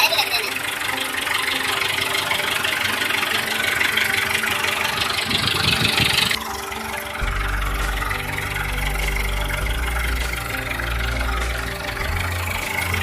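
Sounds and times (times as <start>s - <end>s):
deep hum: 0.0s - 13.0s
tractor diesel engine running: 0.0s - 13.0s.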